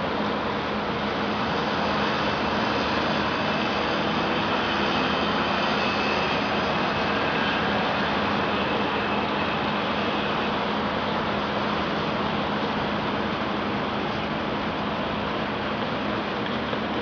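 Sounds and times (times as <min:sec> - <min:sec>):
constant low hum: 0:00.0 - 0:17.0
construction machinery running: 0:00.0 - 0:17.0.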